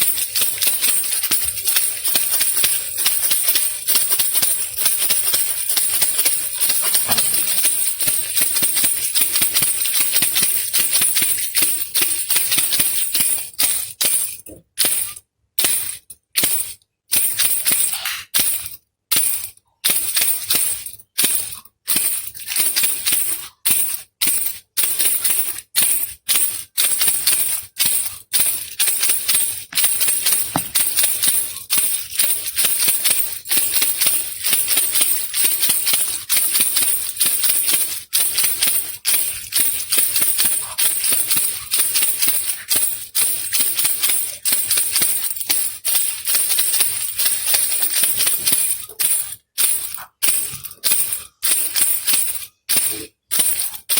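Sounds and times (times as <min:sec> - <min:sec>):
baby rattle shaking: 0:00.0 - 0:53.9.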